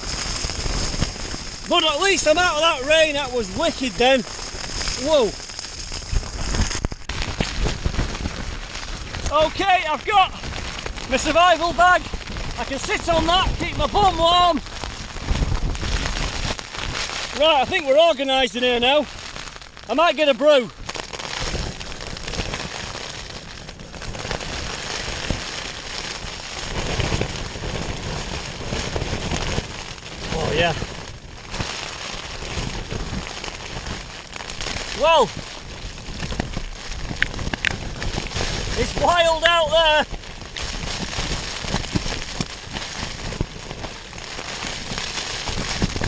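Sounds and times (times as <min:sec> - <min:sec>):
heavy rain on tent fabric: 0:00.0 - 0:46.0
wind buffeting shelter: 0:00.0 - 0:46.0.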